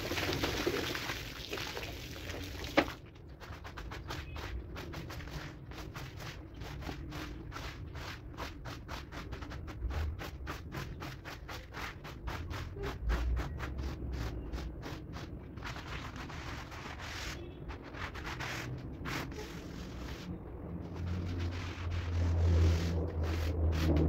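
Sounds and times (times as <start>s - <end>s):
squeegee scraping suds on rug: 2.0s - 24.0s.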